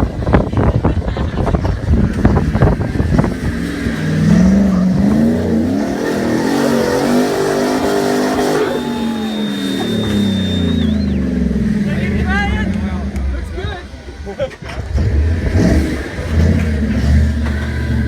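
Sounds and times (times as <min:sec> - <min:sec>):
truck engine revving under load: 0:01.6 - 0:18.0.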